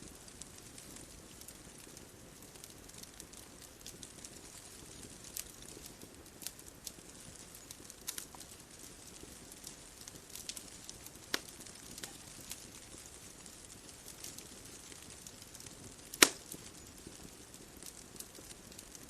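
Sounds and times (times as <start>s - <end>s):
bonfire crackling: 0.0s - 19.0s
low steady hiss: 0.0s - 19.0s.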